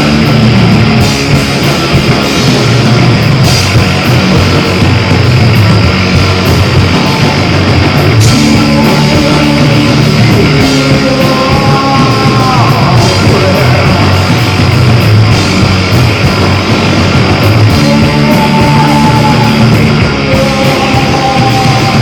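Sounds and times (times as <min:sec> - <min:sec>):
live rock band playing: 0:00.0 - 0:22.0
sliding guitar line: 0:00.0 - 0:22.0.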